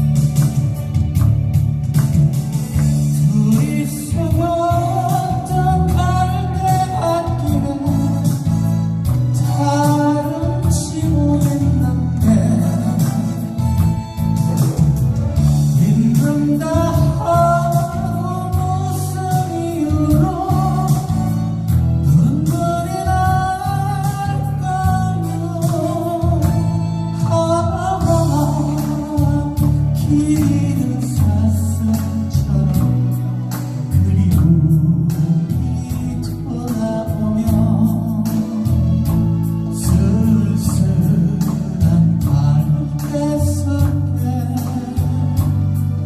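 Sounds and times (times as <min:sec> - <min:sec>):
instrumental accompaniment: 0:00.0 - 0:46.0
person singing: 0:02.8 - 0:46.0.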